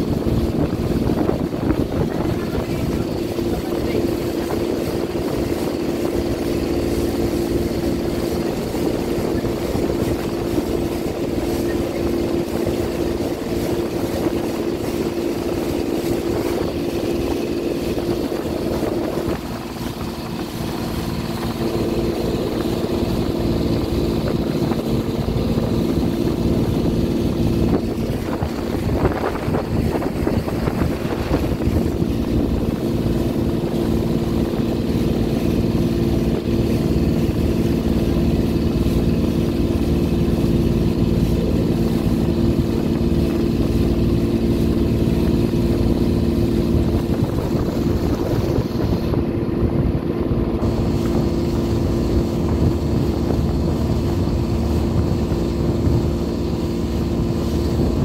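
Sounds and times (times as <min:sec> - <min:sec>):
motorboat engine hum: 0:00.0 - 0:58.0
water rushing along hull: 0:00.0 - 0:58.0.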